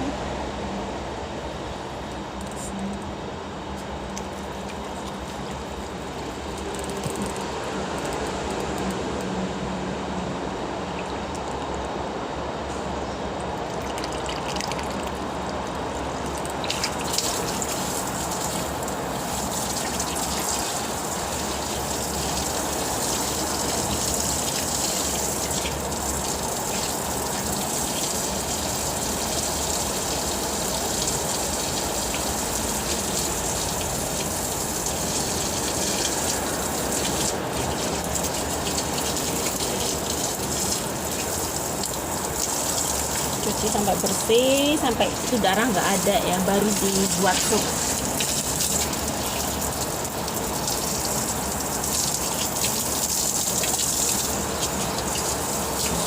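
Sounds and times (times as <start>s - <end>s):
tap water gushing and splashing: 3.7s - 9.3s, 10.8s - 12.1s, 12.7s - 56.0s.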